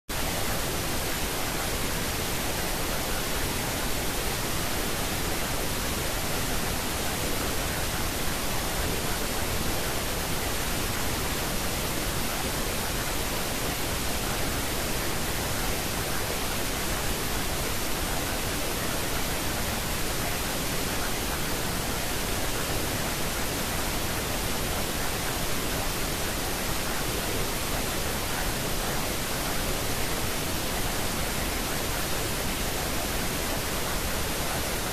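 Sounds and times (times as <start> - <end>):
steady pink noise hiss: 0.1 - 34.9.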